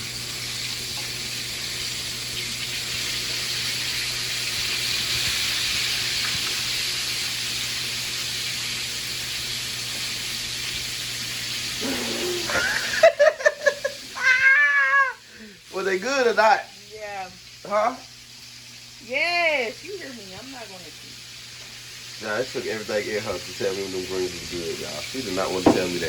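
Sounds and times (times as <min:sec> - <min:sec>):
kitchen tap running: 0:00.0 - 0:26.0.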